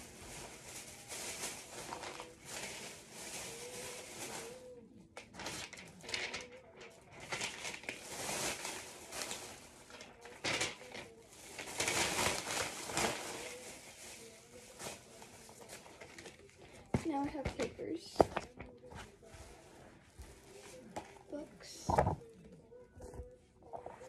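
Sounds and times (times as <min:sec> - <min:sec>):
paper and plastic bag rustling: 0:00.0 - 0:24.0.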